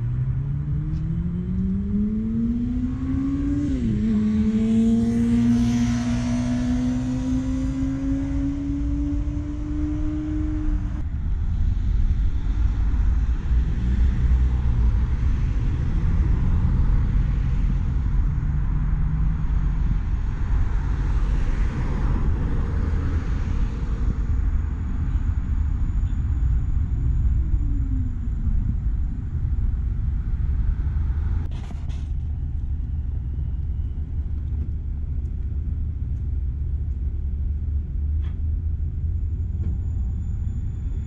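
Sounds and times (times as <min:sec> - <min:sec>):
road traffic rumble: 0:00.0 - 0:41.0
wind: 0:00.0 - 0:41.0.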